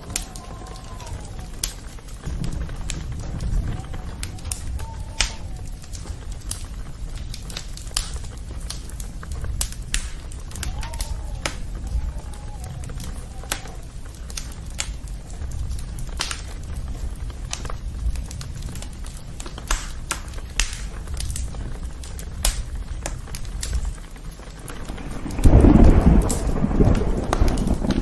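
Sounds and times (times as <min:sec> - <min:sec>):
campfire crackling: 0:00.0 - 0:28.0
low steady rumble: 0:01.3 - 0:28.0.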